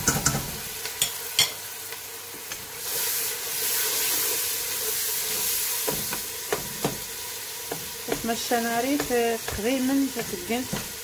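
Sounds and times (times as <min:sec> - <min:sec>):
onions and tomatoes sizzling in pot: 0:00.0 - 0:11.0.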